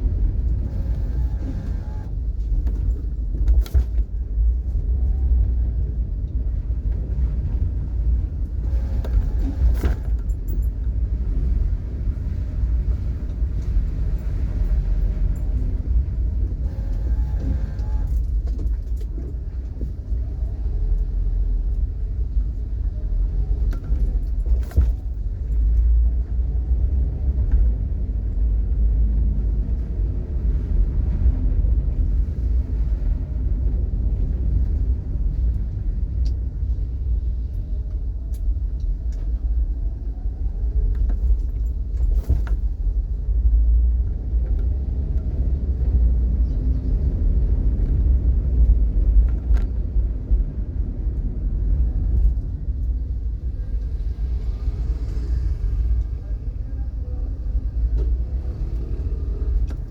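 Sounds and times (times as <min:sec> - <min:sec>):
car rumbling on the move: 0:00.0 - 0:59.9.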